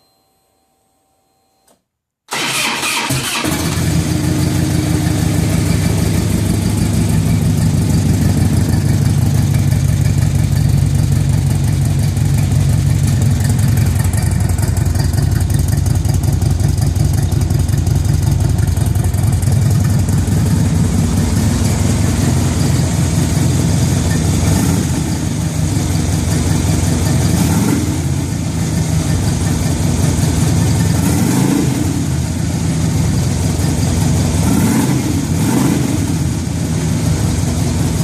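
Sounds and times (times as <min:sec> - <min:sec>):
motorcycle engine idling: 0:03.8 - 0:31.1, 0:31.9 - 0:34.5, 0:36.2 - 0:38.0.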